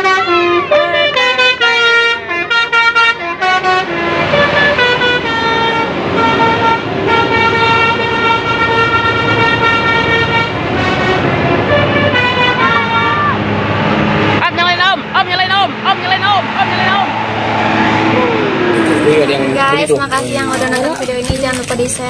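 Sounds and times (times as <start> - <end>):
musical bus horn: 0.0 - 20.0.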